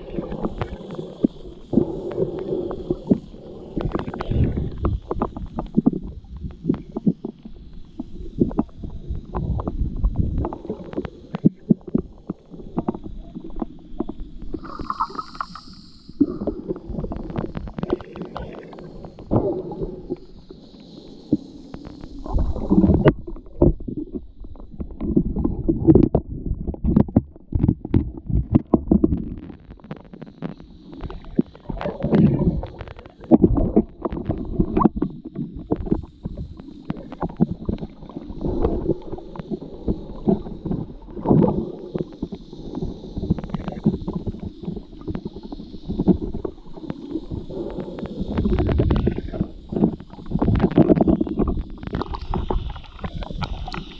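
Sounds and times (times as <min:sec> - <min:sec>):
underwater rumble and gurgling: 0:00.0 - 0:53.9
sharp clicks and crackles: 0:00.1 - 0:53.9.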